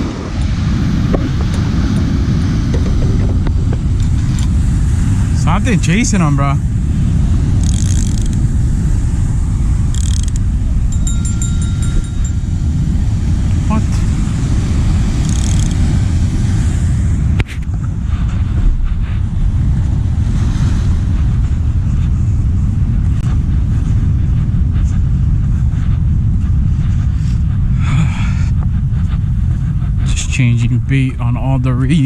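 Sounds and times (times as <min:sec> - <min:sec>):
ocean surf: 0:00.0 - 0:27.9
wind buffeting microphone: 0:00.0 - 0:32.0.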